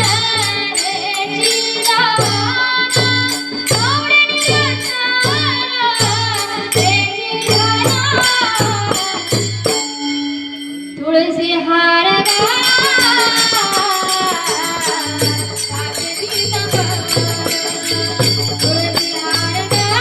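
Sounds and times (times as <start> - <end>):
jingling hand cymbals: 0.0 - 20.0
person singing devotional song: 0.0 - 20.0.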